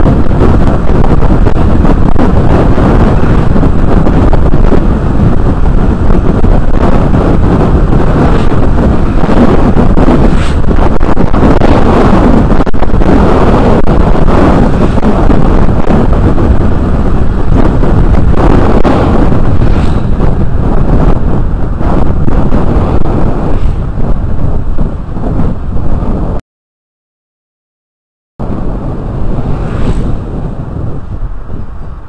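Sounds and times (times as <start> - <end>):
scooter engine and road noise: 0.0 - 26.4, 28.4 - 32.0
wind rushing over microphone: 0.0 - 26.4, 28.4 - 32.0.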